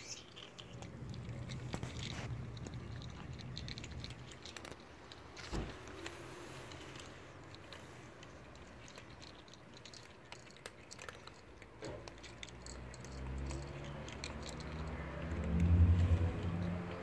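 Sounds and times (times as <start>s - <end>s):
cats crunching dry kibble: 0.0s - 17.0s.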